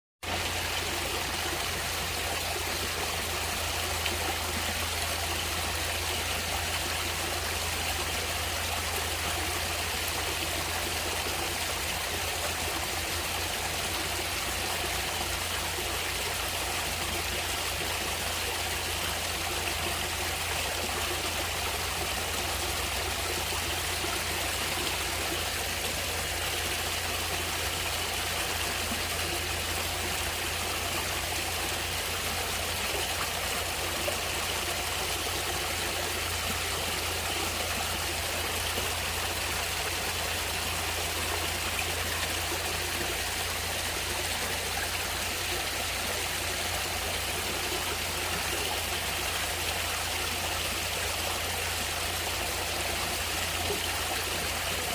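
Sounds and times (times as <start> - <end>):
stream water flowing: 0.2 - 54.9.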